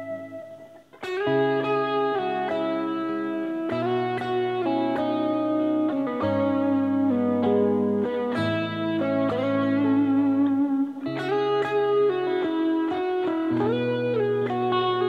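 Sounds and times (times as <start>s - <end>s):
electric guitar lead line: 0.0s - 15.0s
low guitar notes: 0.0s - 15.0s.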